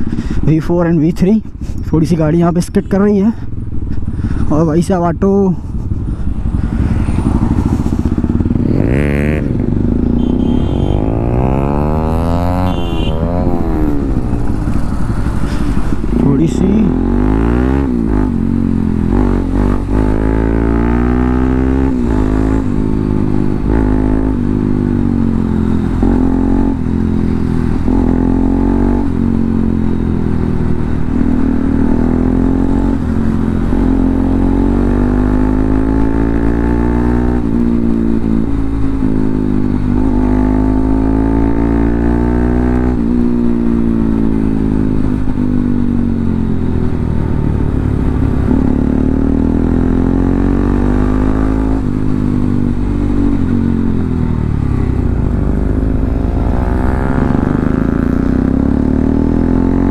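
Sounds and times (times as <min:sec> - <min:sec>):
motorcycle engine revving: 0:05.2 - 0:59.9.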